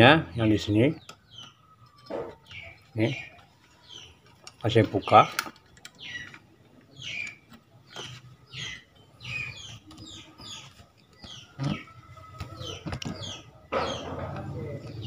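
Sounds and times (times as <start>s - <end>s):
small bird chirping: 0.6s - 15.0s.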